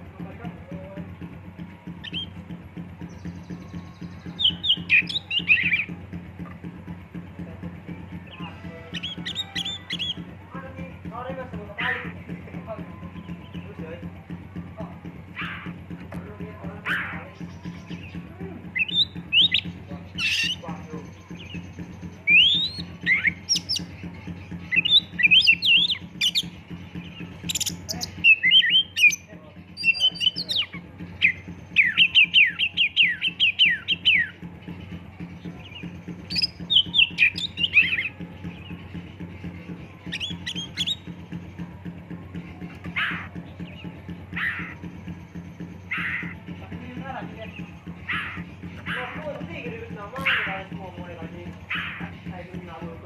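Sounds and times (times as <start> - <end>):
pulsing low sound: 0.0 - 53.0
songbird singing whistled notes: 1.6 - 11.1, 11.8 - 53.0.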